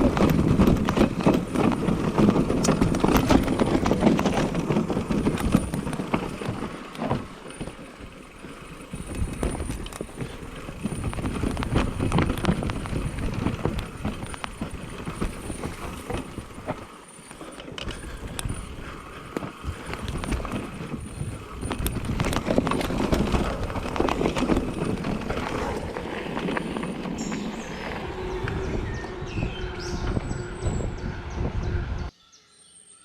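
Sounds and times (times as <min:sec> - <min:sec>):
bike frame and chain rattling: 0:00.0 - 0:30.9
tyres on dirt and stones: 0:00.0 - 0:30.9.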